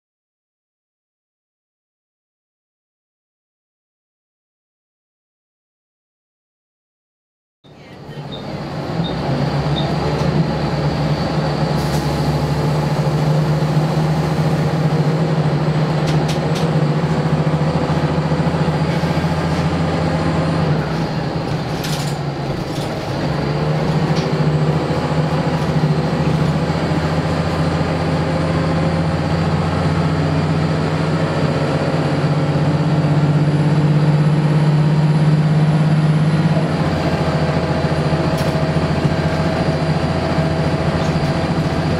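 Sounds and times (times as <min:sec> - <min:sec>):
bus diesel engine droning: 0:07.7 - 0:41.9.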